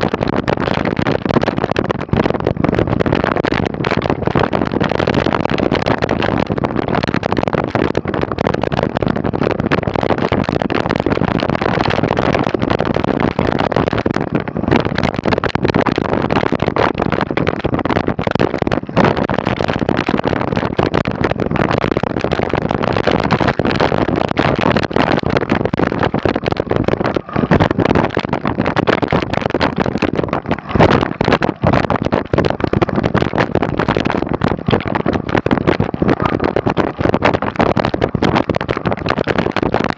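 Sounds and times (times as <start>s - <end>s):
bike rattling and knocking: 0.0s - 39.9s
bike riding rush: 0.0s - 39.9s.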